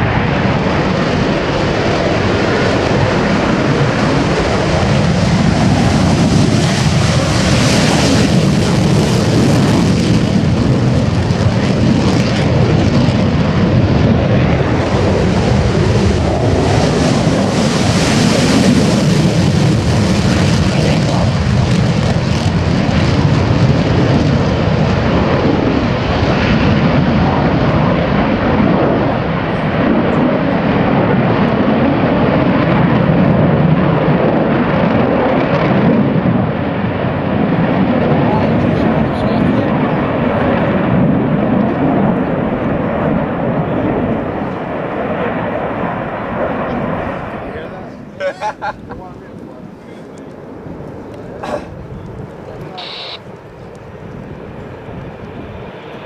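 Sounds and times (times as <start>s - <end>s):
fighter jets taking off: 0.0s - 56.0s.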